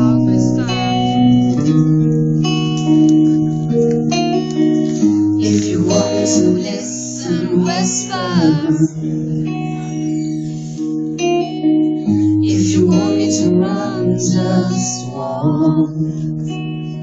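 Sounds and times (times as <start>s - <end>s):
held guitar chords: 0.0s - 17.0s
live rock band playing: 0.0s - 17.0s.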